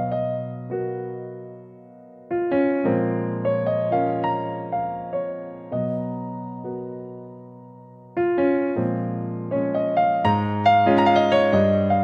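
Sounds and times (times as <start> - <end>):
piano notes: 0.0 - 12.0.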